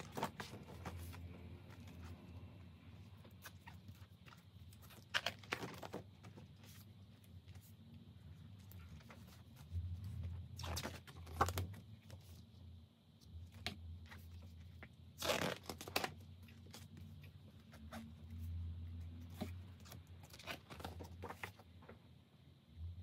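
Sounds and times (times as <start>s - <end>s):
paper pages flipping: 0.0s - 2.4s, 3.0s - 7.8s, 8.6s - 12.4s, 13.6s - 21.7s
low steady hum: 0.0s - 23.0s.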